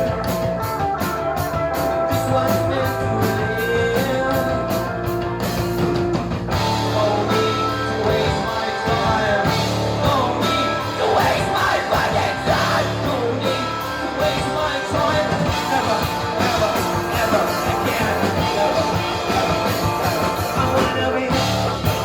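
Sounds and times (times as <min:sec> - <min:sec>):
live rock band playing: 0:00.0 - 0:22.0
person singing: 0:02.0 - 0:05.0, 0:06.8 - 0:22.0.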